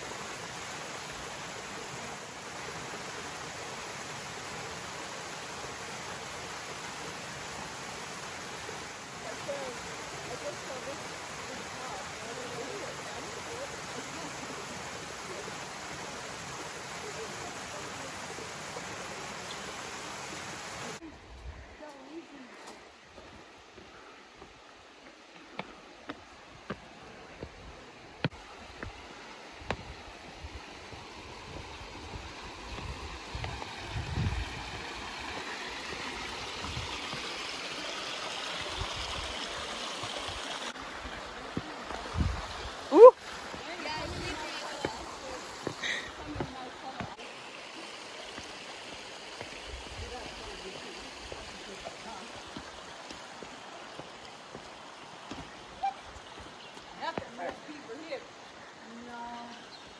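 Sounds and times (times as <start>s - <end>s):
water rushing: 0.0s - 21.2s, 22.1s - 59.9s.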